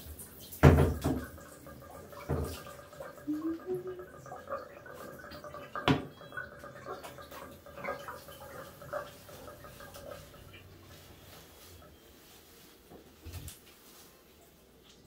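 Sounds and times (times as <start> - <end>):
water splashing and dripping: 0.0 - 12.6.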